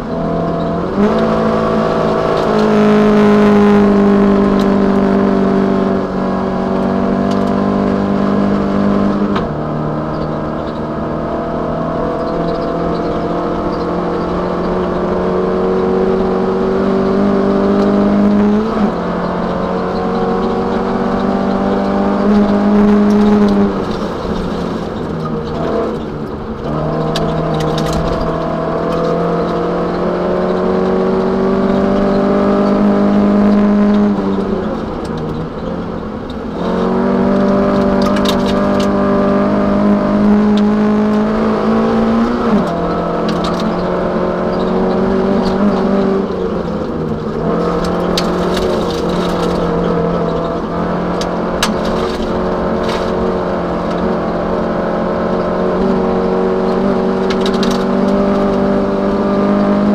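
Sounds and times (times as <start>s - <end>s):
car engine revving through gears: 0.0s - 59.9s.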